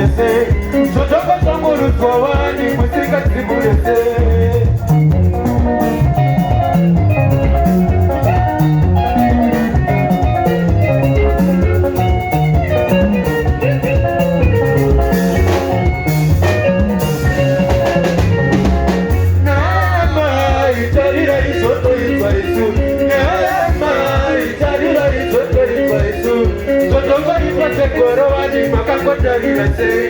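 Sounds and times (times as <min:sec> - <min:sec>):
bass guitar: 0:00.0 - 0:30.0
drum kit beat: 0:00.0 - 0:30.0
electric guitar lines: 0:00.0 - 0:30.0.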